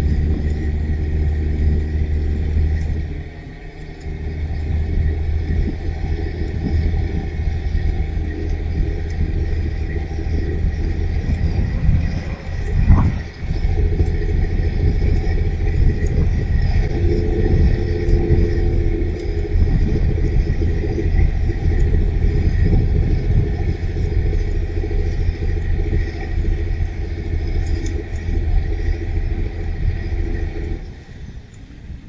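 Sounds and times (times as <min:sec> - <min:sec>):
boat diesel engine rumble: 0:00.0 - 0:32.0
humming tone: 0:00.0 - 0:32.0.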